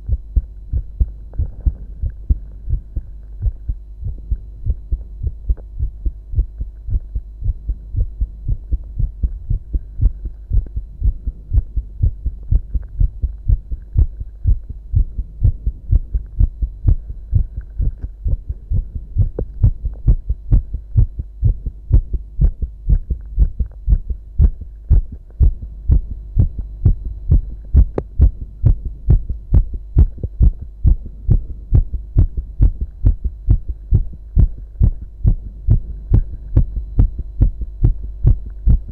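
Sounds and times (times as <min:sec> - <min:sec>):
faint steady hum: 0:00.0 - 0:38.9
heartbeat: 0:00.0 - 0:38.9.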